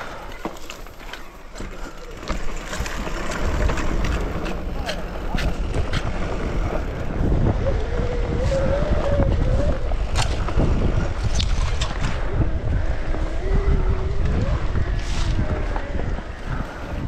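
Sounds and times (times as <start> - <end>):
bike rattling over ground: 0.0 - 17.0
wind buffeting microphone: 1.5 - 17.0.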